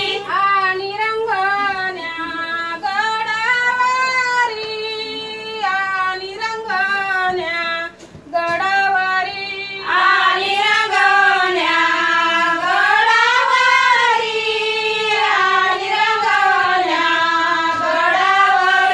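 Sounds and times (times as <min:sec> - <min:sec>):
group of women singing: 0:00.0 - 0:18.9.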